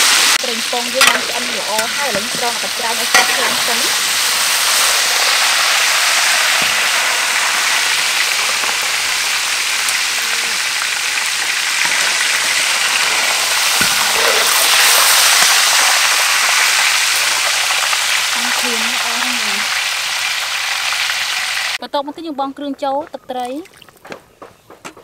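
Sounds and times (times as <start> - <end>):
hot oil sizzling: 0.0 - 21.8.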